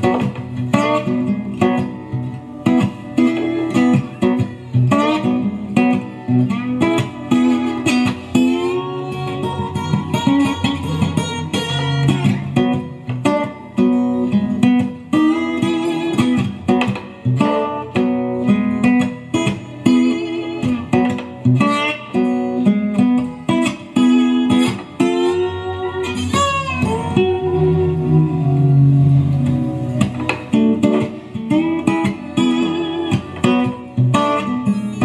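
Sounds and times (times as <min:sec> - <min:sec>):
guitar song through speaker: 0:00.0 - 0:35.0.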